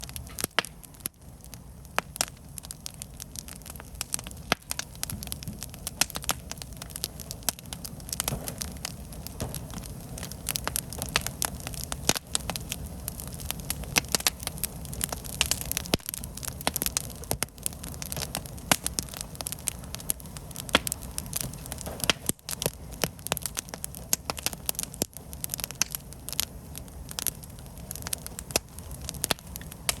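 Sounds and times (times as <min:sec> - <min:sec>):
firewood crackling and popping: 0:00.0 - 0:30.0
low rumble of flames: 0:00.0 - 0:30.0.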